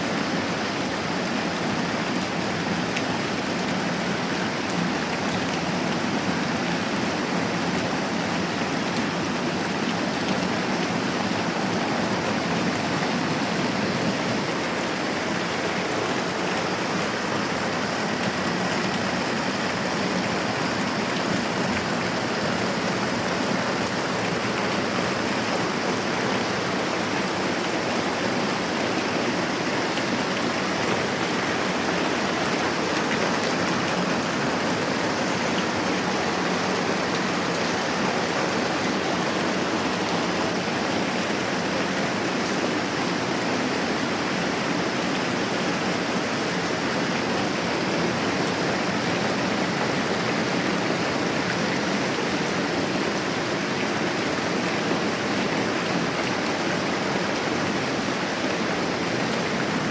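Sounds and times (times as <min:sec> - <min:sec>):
moderate rain falling: 0:00.0 - 0:59.9.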